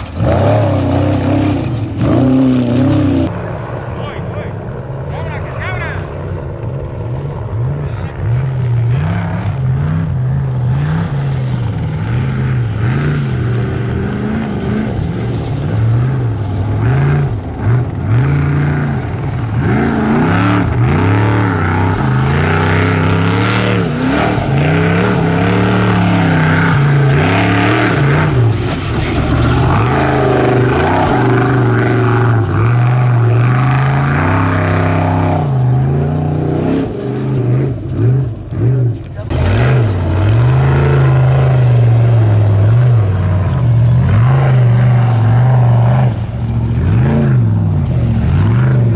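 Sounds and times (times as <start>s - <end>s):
truck engine revving: 0.0s - 3.5s, 6.1s - 48.9s.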